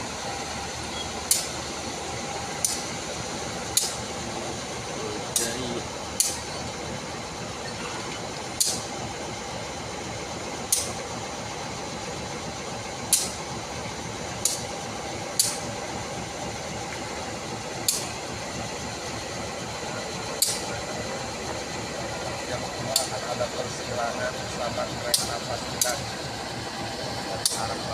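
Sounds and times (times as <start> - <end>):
diesel locomotive idling: 0.0 - 27.9.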